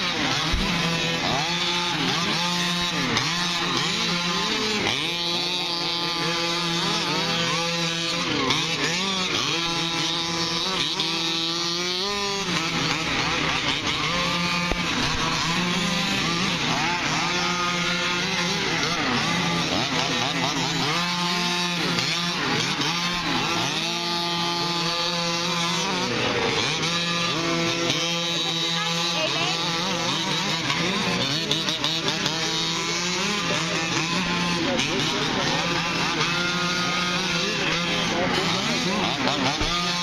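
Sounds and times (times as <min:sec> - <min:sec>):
rc truck engines revving: 0:00.0 - 0:40.0.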